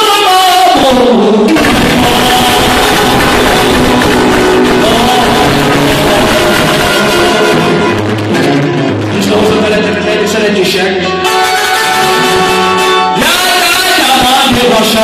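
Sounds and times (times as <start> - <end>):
electric guitar: 0.0 - 15.0
man singing: 0.0 - 15.0
strummed mandolin: 1.6 - 15.0.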